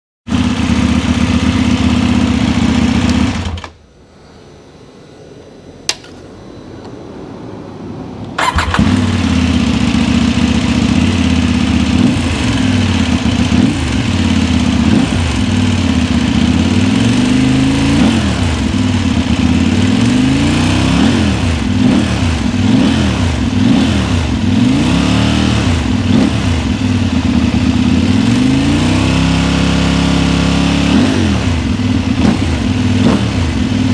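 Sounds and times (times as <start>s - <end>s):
motorcycle engine revving: 0.3s - 3.7s, 7.0s - 33.9s.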